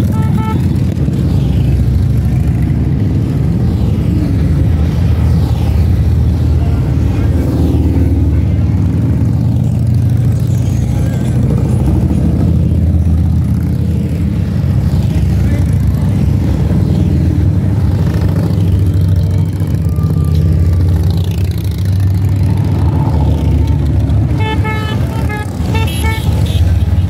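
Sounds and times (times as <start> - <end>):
motorcycles riding past: 0.0 - 27.0.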